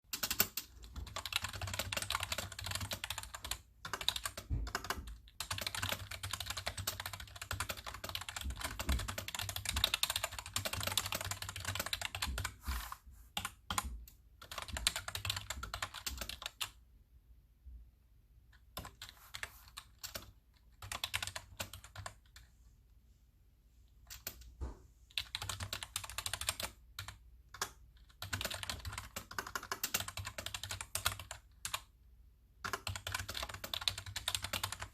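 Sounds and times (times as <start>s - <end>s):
fast typing on keyboard: 0.1s - 12.6s, 13.4s - 16.8s, 18.6s - 22.4s, 24.1s - 24.5s, 25.1s - 31.9s, 32.6s - 34.9s.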